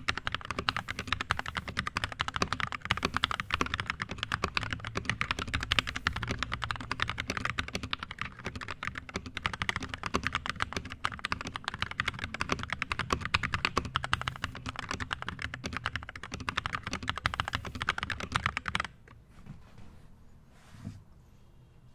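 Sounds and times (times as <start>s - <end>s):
mechanical keyboard typing: 0.0s - 19.1s.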